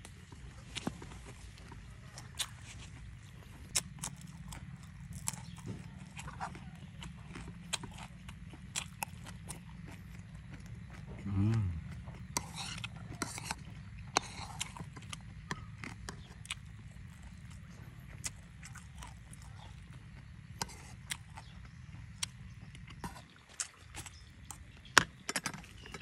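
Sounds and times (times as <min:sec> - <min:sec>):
chewing crunches: 0:00.0 - 0:26.0.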